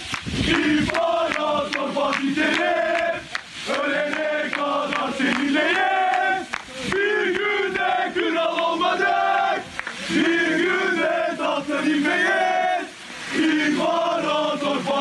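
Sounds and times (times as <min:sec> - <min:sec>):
crowd chanting in unison: 0:00.4 - 0:15.0.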